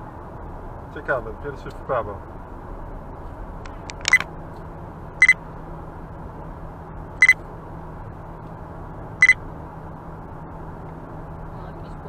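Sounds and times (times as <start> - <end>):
car driving hum: 0.0 - 12.0.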